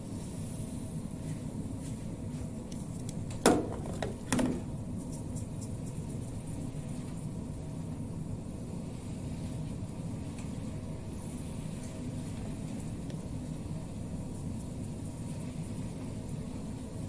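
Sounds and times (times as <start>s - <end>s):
range hood fan humming: 0.0s - 17.0s.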